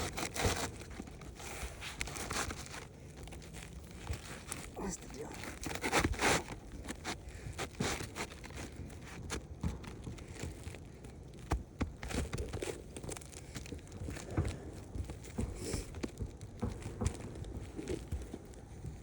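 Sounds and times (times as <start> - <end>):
roof shingles scraping and tapping: 0.0 - 19.0.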